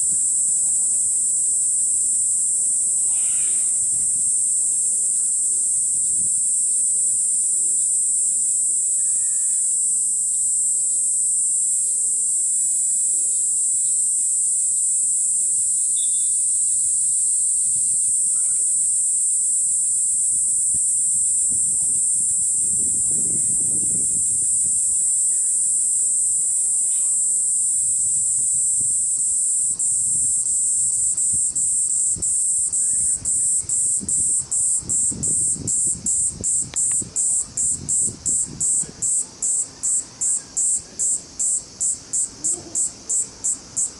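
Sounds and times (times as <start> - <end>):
cicada shrill singing: 0.0 - 43.9.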